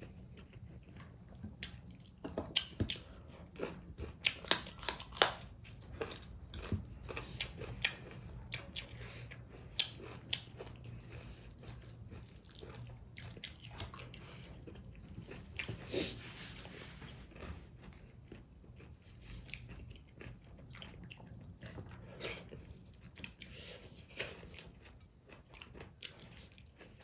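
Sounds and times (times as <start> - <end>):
chewing and crunching: 0.0 - 27.0.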